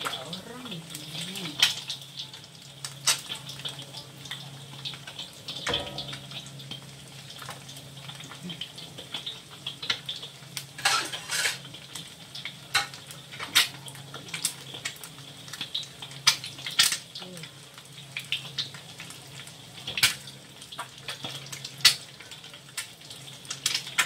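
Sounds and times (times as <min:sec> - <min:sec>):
egg frying in oil: 0:00.0 - 0:24.0.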